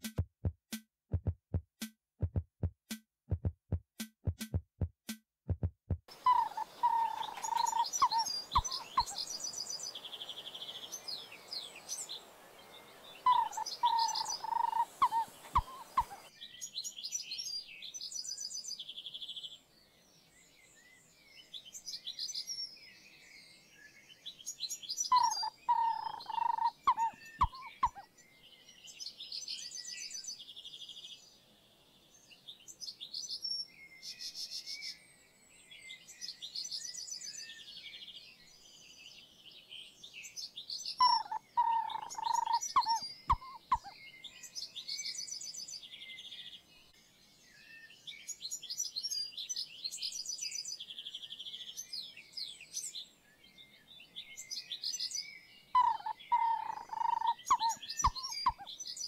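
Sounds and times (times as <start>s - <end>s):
birds chirping and trilling: 6.1s - 59.0s.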